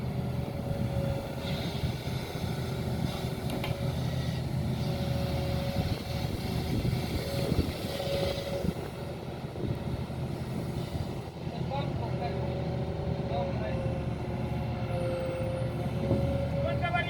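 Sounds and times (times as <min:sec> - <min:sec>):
diesel engine running: 0:00.0 - 0:17.0
high engine whine: 0:00.0 - 0:17.0.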